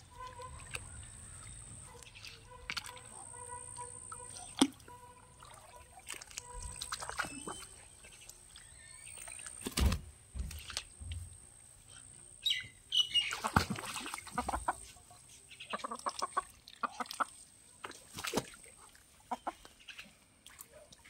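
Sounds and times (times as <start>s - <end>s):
ducks dabbling and splashing: 0.0s - 21.0s.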